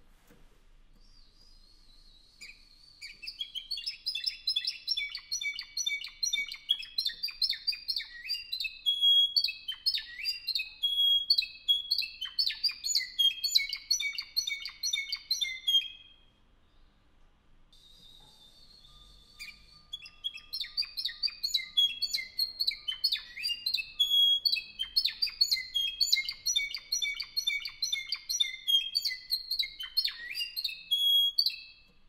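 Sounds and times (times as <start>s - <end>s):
canary singing: 1.0s - 16.9s, 17.8s - 32.0s.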